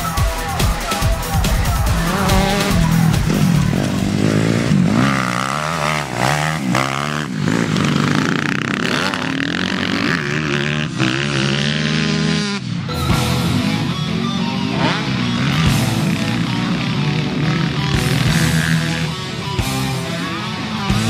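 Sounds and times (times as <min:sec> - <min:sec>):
motocross bike engine revving: 0:00.6 - 0:21.0.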